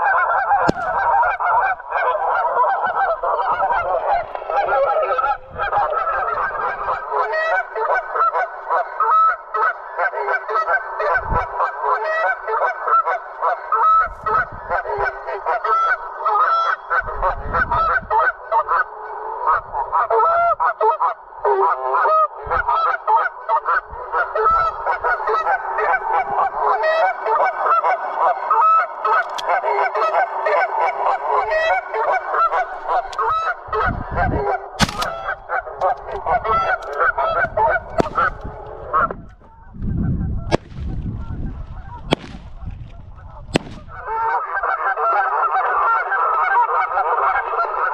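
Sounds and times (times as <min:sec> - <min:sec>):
low rumble of wind: 0:00.0 - 0:21.5, 0:22.3 - 0:47.9
geese honking: 0:00.0 - 0:47.9.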